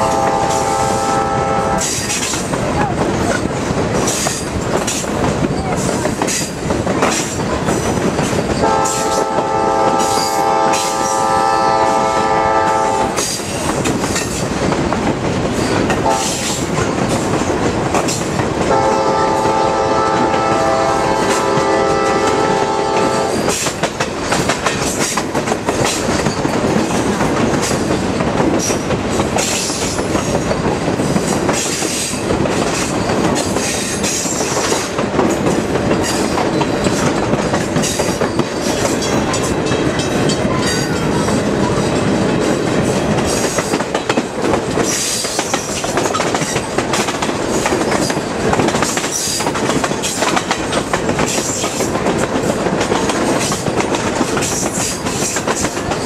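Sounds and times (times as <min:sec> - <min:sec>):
train wheels clickety-clack on rails: 0:00.0 - 0:56.0
wheel and rail noise: 0:00.0 - 0:56.0.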